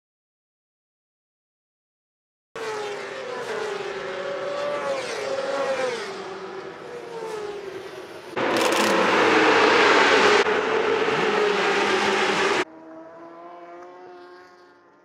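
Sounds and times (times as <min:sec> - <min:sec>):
racing motorcycles passing: 0:02.6 - 0:15.0.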